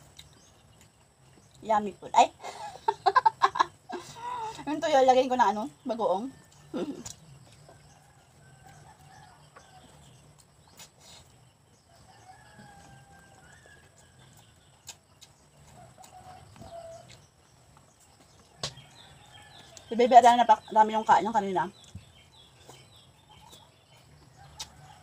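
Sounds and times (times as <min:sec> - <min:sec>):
faint chickens clucking: 0:02.6 - 0:25.0.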